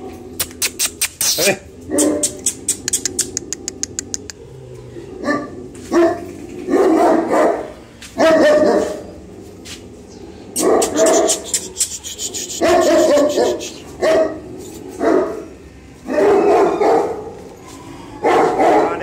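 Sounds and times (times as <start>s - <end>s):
large dogs barking deeply: 1.6s - 19.0s.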